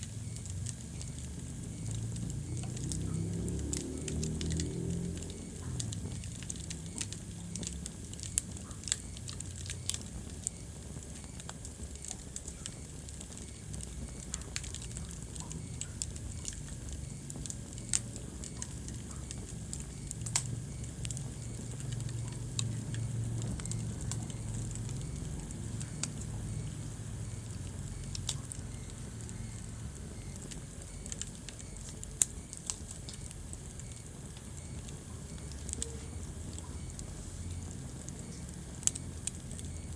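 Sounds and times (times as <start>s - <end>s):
fire popping: 0.0s - 39.9s
low fire rumble: 0.0s - 39.9s
wood fire crackling: 0.0s - 39.9s.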